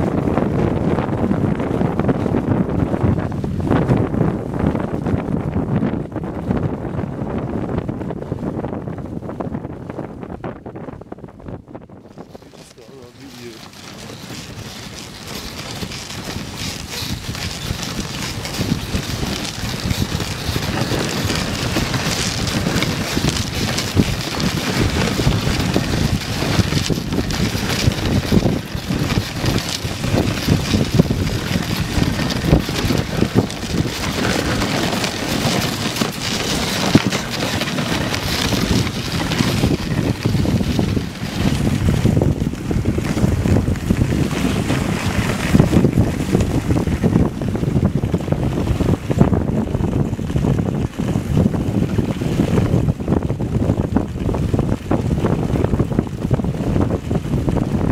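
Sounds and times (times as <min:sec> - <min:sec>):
sled runners sliding on snow: 0:00.0 - 0:07.8, 0:12.0 - 0:57.9
wind buffeting microphone: 0:00.0 - 0:57.9.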